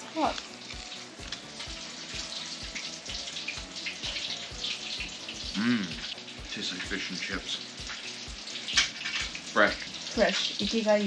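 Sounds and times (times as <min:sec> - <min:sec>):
faint background music: 0:00.0 - 0:11.0
hot oil sizzling in a deep fryer: 0:00.0 - 0:11.0.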